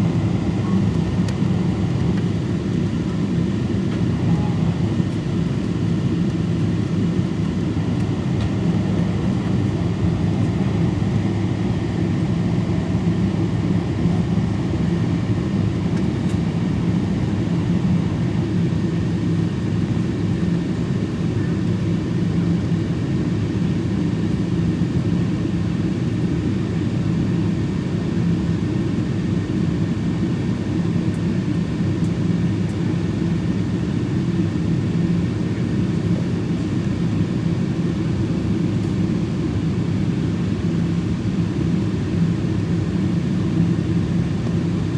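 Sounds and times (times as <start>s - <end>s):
jet engine cabin drone: 0.0s - 44.9s.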